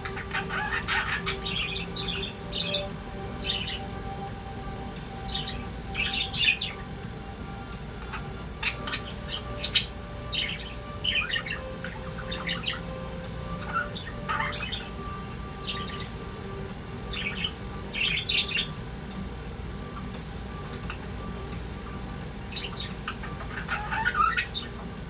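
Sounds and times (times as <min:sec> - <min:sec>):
budgerigars chirping and chattering: 0:00.0 - 0:19.1, 0:19.7 - 0:24.9
faint steady hum: 0:00.0 - 0:25.0.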